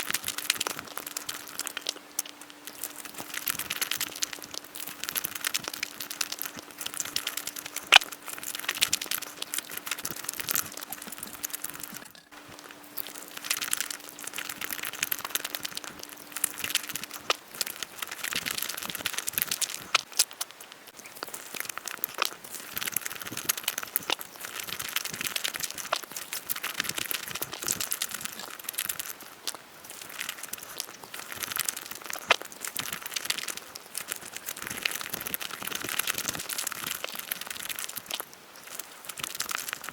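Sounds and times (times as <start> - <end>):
chewing and mouth clicks: 0.0 - 39.9
faint steady hum: 0.0 - 39.9.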